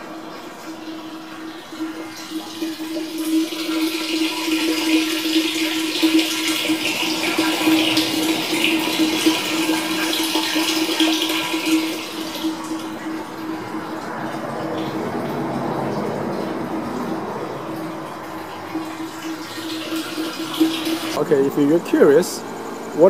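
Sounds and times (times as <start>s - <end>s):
steady low hum: 0.0s - 23.0s
water pouring into barrel: 0.0s - 23.0s.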